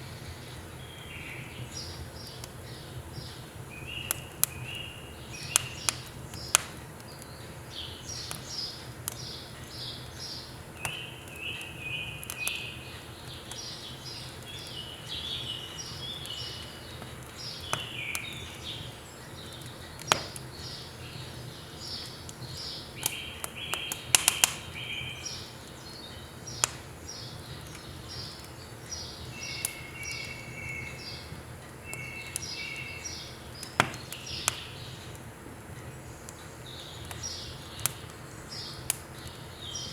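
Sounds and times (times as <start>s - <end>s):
firewood crackling and popping: 0.0s - 39.9s
birds chirping: 0.1s - 35.2s, 35.8s - 39.9s.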